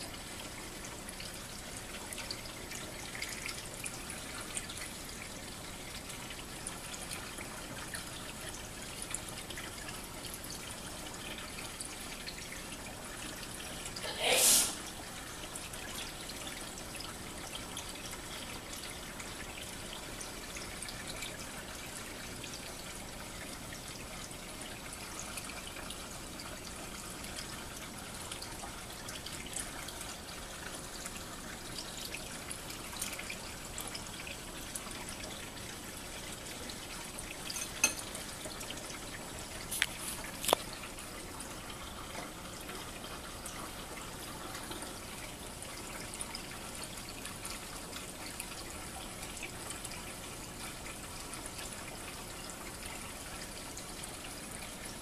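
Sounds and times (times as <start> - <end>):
aquarium water trickling: 0.0 - 55.0.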